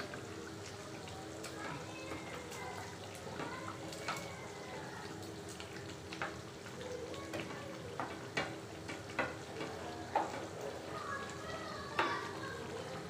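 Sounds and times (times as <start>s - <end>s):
gravy sizzling and bubbling: 0.0s - 13.0s.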